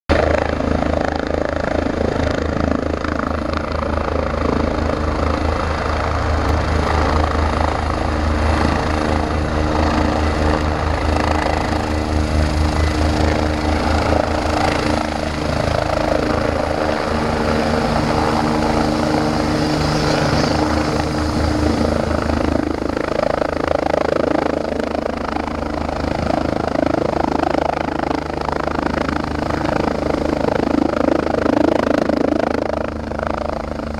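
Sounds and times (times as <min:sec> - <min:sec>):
turbine hum: 0:00.1 - 0:33.6
helicopter rotor chopping: 0:00.1 - 0:33.9.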